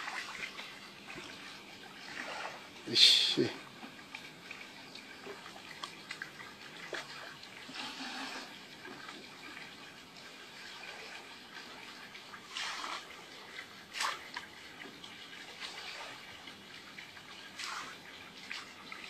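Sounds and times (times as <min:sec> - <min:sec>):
faint wash of water: 0:00.0 - 0:19.0
water splashes: 0:00.0 - 0:19.0.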